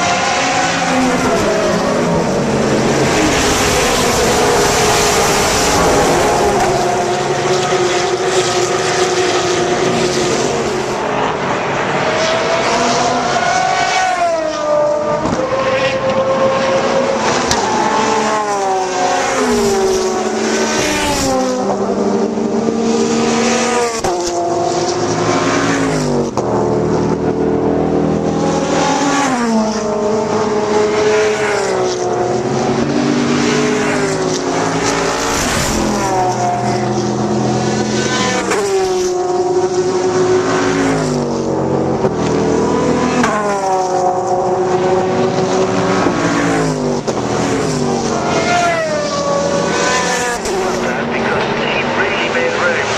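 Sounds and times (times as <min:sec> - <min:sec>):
race cars passing at speed: 0:00.0 - 0:52.9.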